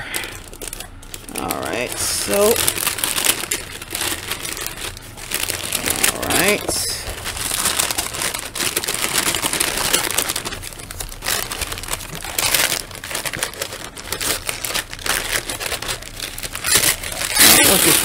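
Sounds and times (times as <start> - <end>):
crackles and clicks: 0.0 - 18.0
packing paper crinkling: 0.0 - 18.0.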